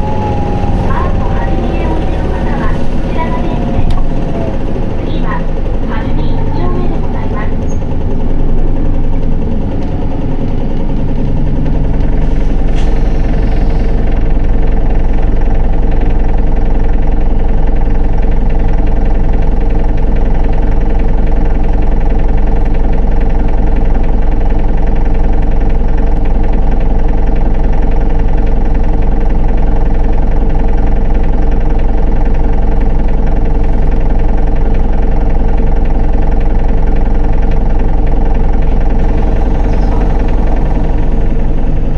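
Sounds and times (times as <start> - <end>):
diesel bus engine drone: 0.0 - 41.9.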